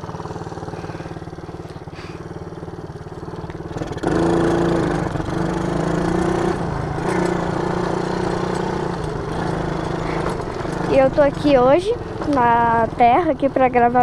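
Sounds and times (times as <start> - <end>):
quad bike engine idling and revving: 0.0 - 14.0.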